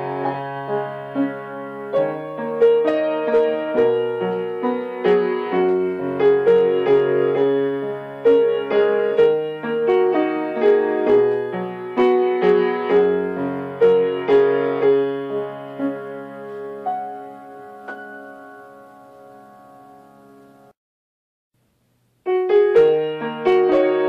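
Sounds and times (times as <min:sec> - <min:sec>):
solo piano music: 0:00.0 - 0:20.8, 0:22.2 - 0:24.0.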